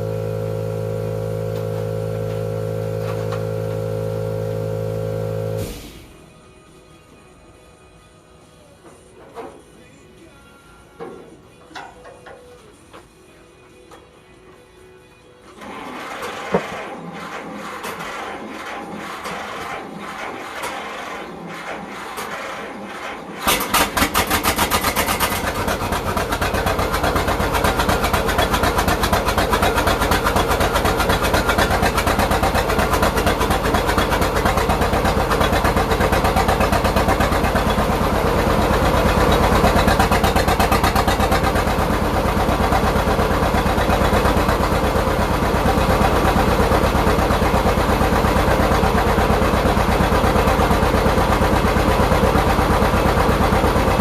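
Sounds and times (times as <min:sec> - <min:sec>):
tractor engine starting and running: 0:00.0 - 0:07.9, 0:08.5 - 0:13.2, 0:15.4 - 0:54.0.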